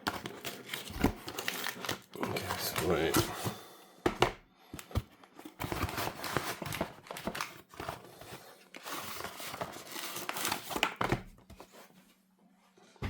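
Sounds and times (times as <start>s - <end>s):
packaging crinkling and rustling: 0.0s - 3.6s, 4.8s - 12.0s.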